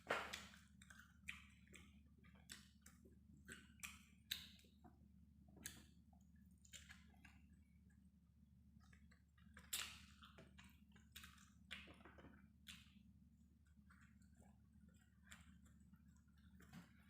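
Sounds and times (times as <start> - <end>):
low steady hum: 0.0 - 17.0
person chewing food: 0.1 - 17.0.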